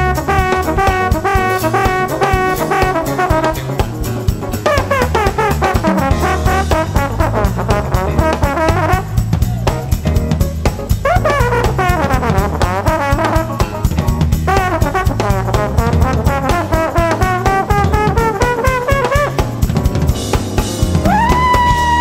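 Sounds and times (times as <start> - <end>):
trombone solo: 0.0 - 9.5, 10.9 - 22.0
bass: 0.0 - 22.0
drum kit: 0.0 - 22.0.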